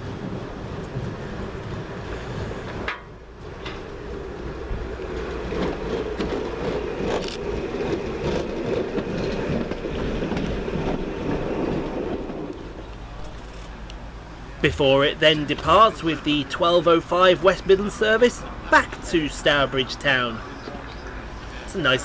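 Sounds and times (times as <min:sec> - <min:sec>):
railcar hum: 0:00.0 - 0:22.0
wheels clicking on track: 0:00.3 - 0:22.0.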